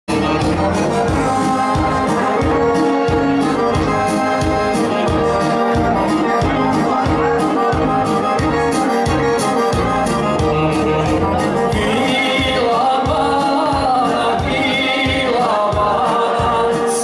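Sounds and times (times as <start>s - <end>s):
folk dance music on keyboard: 0.1s - 17.0s.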